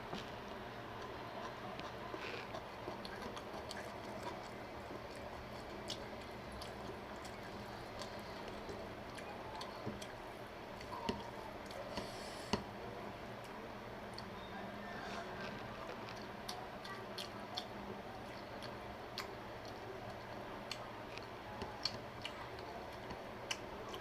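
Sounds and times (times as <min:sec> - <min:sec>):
wet squishy chewing: 0:00.2 - 0:12.7, 0:13.4 - 0:24.0.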